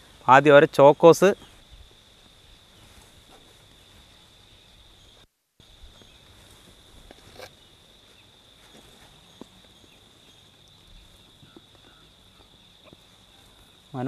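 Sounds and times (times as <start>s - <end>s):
crickets droning: 0.0s - 14.0s.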